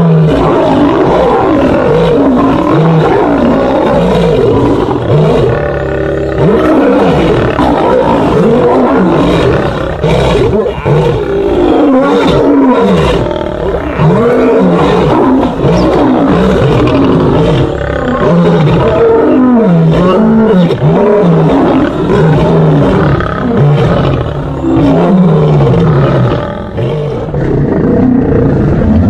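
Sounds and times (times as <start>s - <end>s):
lions snarling and roaring: 0.0s - 29.0s.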